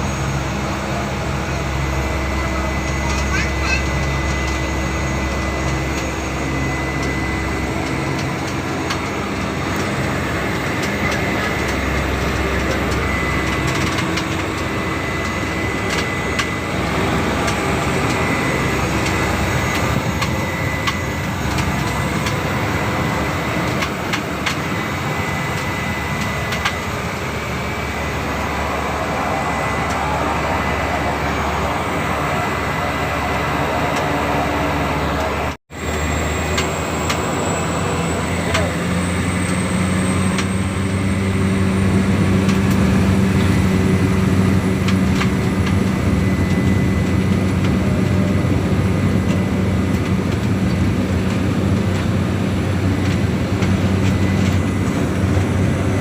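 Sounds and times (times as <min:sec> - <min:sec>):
aircraft engine drone in cabin: 0:00.0 - 0:56.0.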